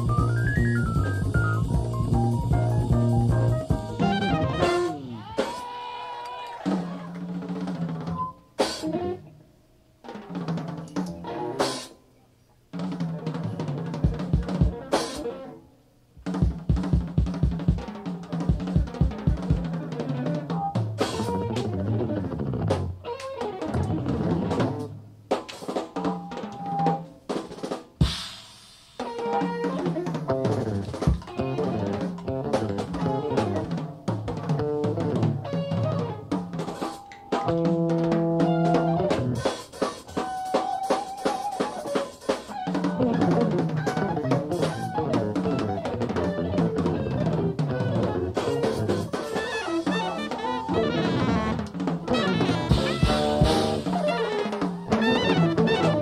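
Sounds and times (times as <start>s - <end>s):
drum kit snare hits and rolls: 0.0s - 5.7s, 6.7s - 9.0s, 12.8s - 15.3s, 16.2s - 23.0s, 27.3s - 56.0s
jazz fusion band playing: 0.0s - 5.7s, 6.7s - 9.3s, 10.1s - 12.0s, 12.8s - 15.6s, 16.2s - 28.2s, 29.0s - 56.0s.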